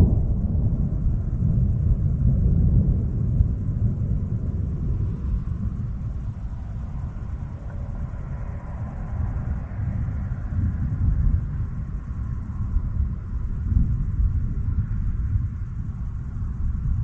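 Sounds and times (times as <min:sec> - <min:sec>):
rolling thunder rumble: 0:00.0 - 0:17.0.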